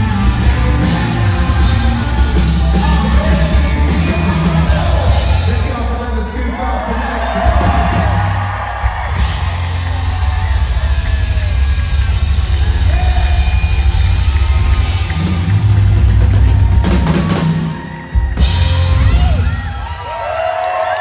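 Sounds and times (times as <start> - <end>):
live country rock band: 0.0 - 20.1
crowd yelling: 0.0 - 21.0.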